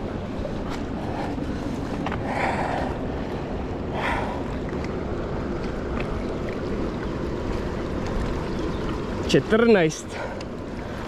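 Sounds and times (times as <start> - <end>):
river water: 0.0 - 11.0
wind rumbling on microphone: 0.0 - 11.0.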